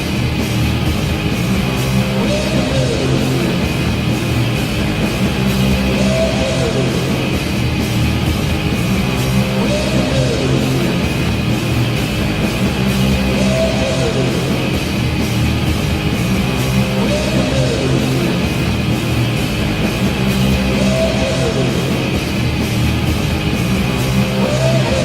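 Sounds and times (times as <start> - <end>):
hard rock with distorted guitars: 0.0 - 25.0.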